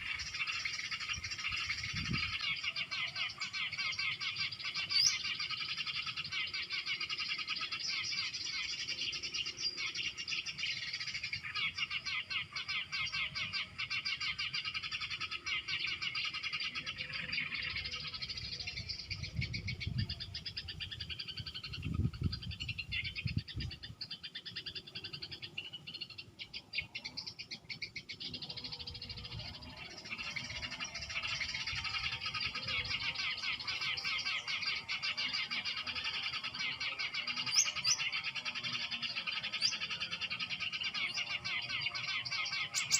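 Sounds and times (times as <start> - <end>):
small birds chattering and trilling: 0.0 - 42.9.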